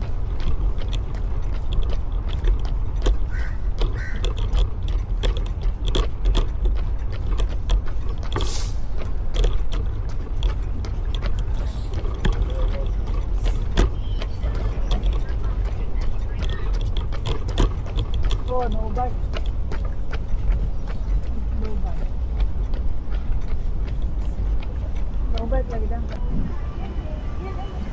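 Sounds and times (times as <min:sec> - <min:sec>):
running footsteps on pavement: 0:00.0 - 0:27.9
wind rumble on microphone: 0:00.0 - 0:27.9.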